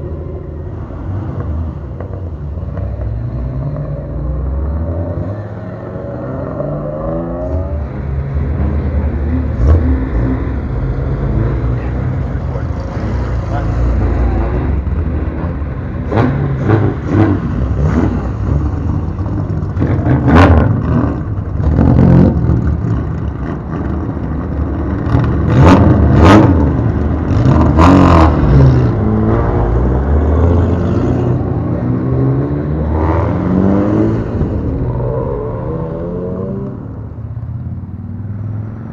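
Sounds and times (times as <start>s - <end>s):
car engines revving: 0.0s - 38.9s.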